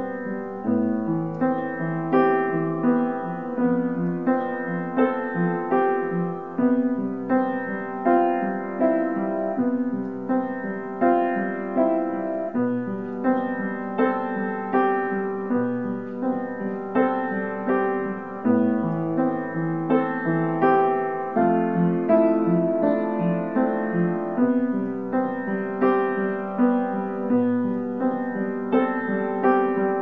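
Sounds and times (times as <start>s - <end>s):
solo piano melody: 0.0s - 30.0s.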